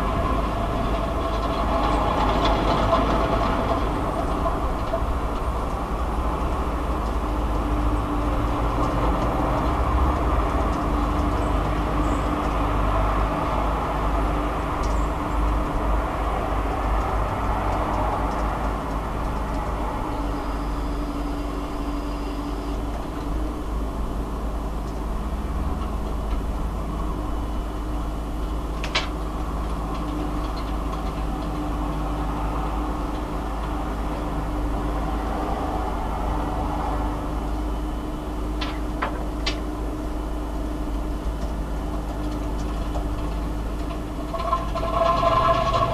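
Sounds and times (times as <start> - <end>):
low droning hum: 0.0 - 45.9.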